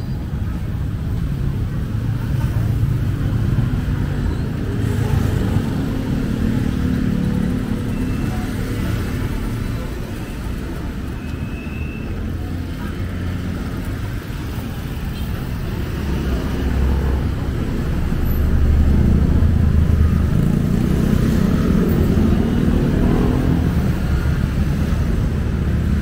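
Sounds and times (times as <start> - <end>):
passing motorcycles and cars: 0.0 - 26.0.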